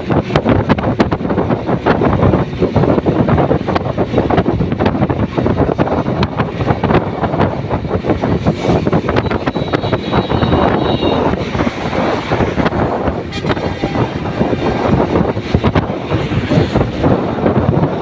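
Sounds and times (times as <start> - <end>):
motorcycle engine and road rumble: 0.0 - 18.0
wind buffeting microphone: 0.0 - 18.0.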